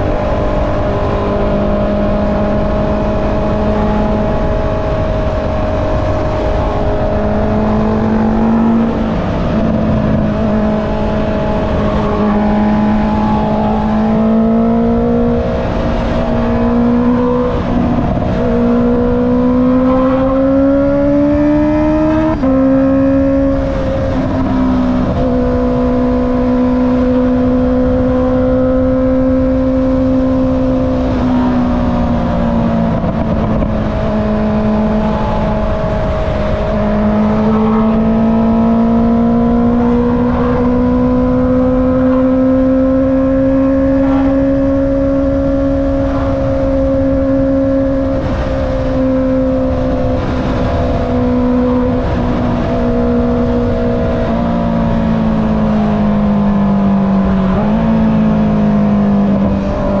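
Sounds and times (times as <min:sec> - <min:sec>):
motorcycle engine riding: 0:00.0 - 1:00.0
wind and road noise: 0:00.0 - 1:00.0.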